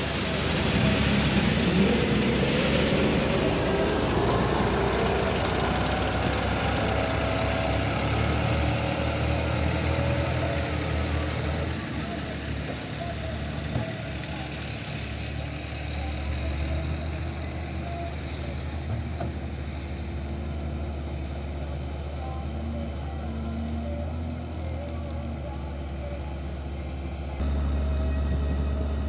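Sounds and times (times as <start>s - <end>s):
diesel engines running: 0.0s - 29.0s.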